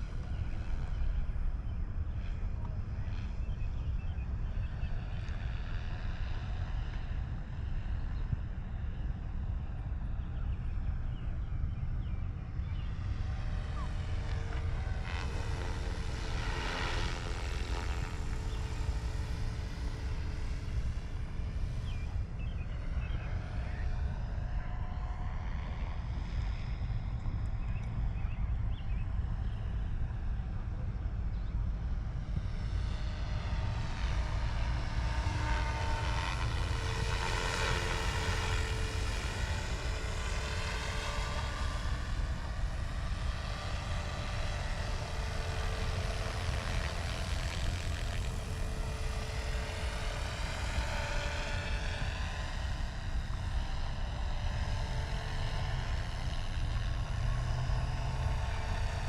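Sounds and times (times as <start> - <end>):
helicopter flying low: 0.0 - 59.0.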